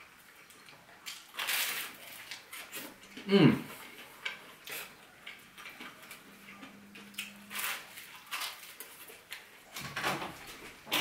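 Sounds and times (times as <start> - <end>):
soft chewing with clicks: 0.0 - 1.4, 2.0 - 9.5.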